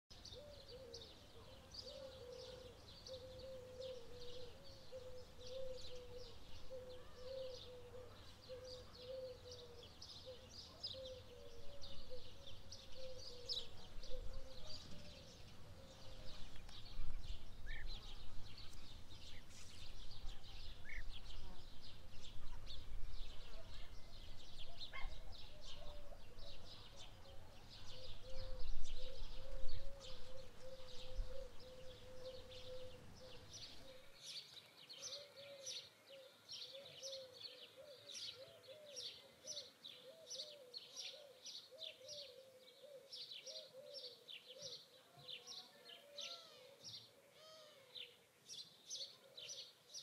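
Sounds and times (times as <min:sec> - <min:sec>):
birds chirping: 0:00.1 - 0:50.0.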